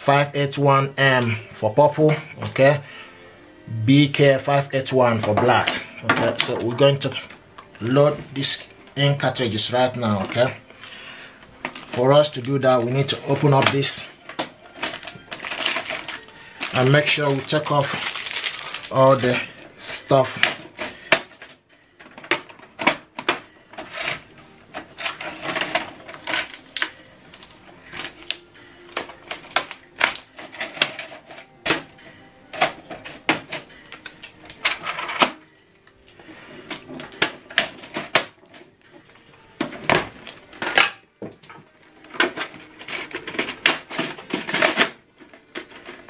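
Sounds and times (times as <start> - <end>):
plastic crackling rustles: 4.8 - 46.0.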